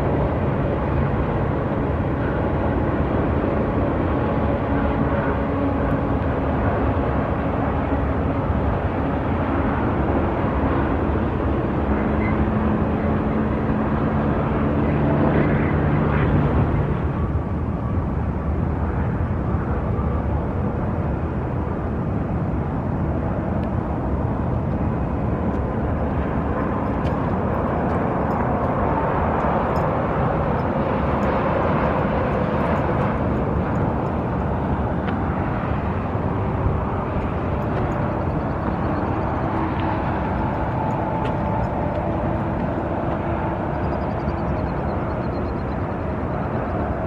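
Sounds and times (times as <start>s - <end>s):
distant freight train rumble: 0.0s - 47.0s.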